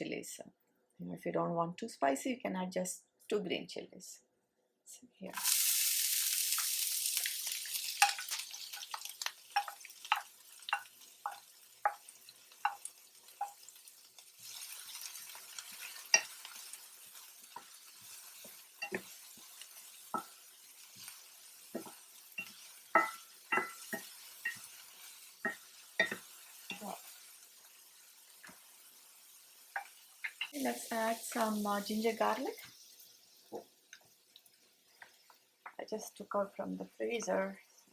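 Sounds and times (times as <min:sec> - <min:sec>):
onions sizzling in oil: 0:05.3 - 0:37.9.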